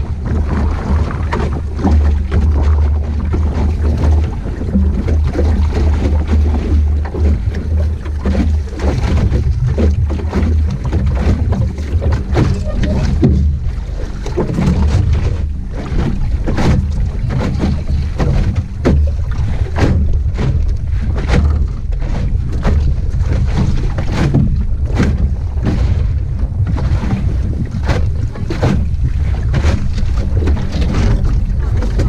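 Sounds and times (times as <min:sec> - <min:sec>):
water slapping against hull: 0:00.0 - 0:32.0
wind rumble on microphone: 0:00.0 - 0:32.0.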